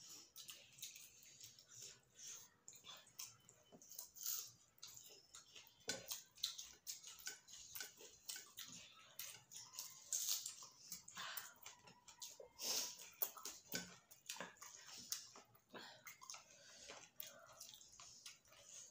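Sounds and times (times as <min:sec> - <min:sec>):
chewing and lip-smacking: 0:00.0 - 0:18.9
fingers squelching rice on plates: 0:00.1 - 0:18.9.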